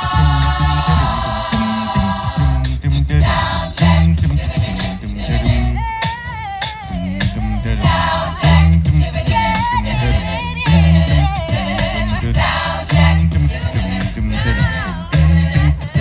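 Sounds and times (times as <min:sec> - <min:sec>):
heavy low bass voice: 0:00.0 - 0:06.0, 0:06.9 - 0:16.0
a cappella group singing: 0:00.0 - 0:16.0.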